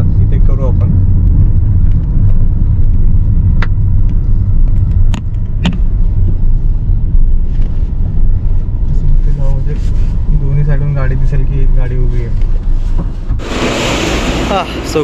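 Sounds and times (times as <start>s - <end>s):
car cabin rumble: 0.0s - 13.6s.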